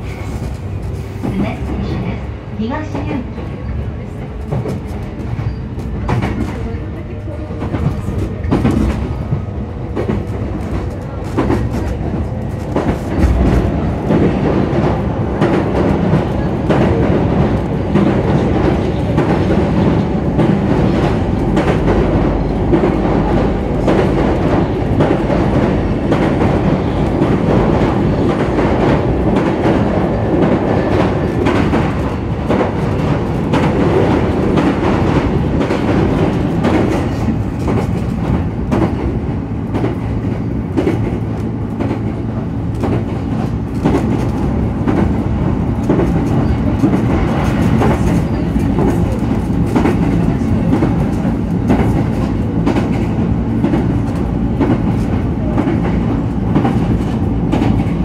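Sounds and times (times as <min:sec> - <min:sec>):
rail joint clicks: 0:00.0 - 0:58.0
train wheels rumbling on rails: 0:00.0 - 0:58.0.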